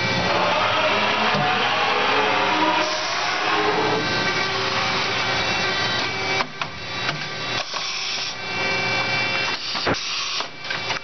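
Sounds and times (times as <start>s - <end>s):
machine whine: 0.0s - 11.0s.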